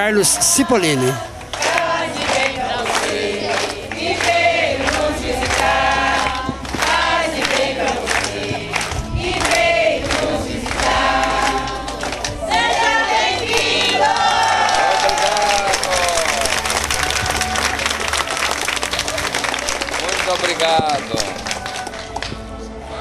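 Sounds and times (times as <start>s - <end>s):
group singing: 0.0s - 15.0s, 16.0s - 18.7s, 21.0s - 23.0s
hands clapping: 1.4s - 12.9s, 13.5s - 22.5s.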